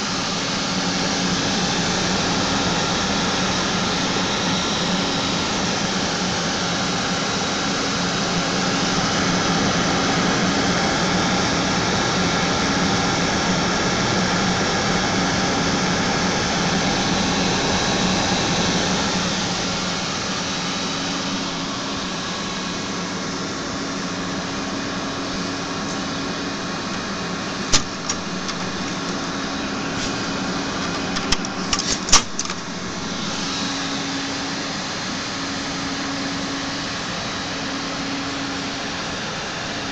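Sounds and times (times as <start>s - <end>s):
computer fans whirring: 0.0s - 39.9s.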